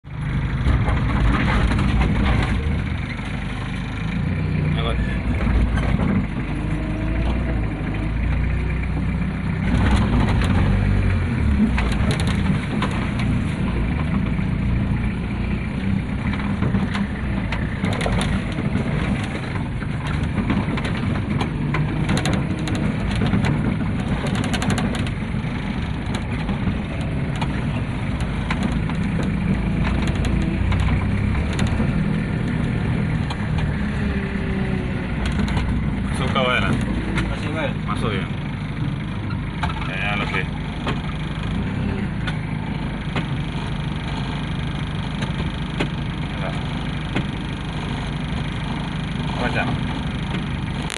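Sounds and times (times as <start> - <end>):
knocks and rattles on rough road: 0.0 - 50.9
vehicle engine running: 0.0 - 50.9.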